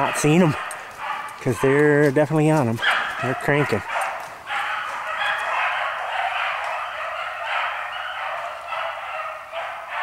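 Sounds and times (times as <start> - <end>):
hounds baying and yelping: 0.0 - 10.0.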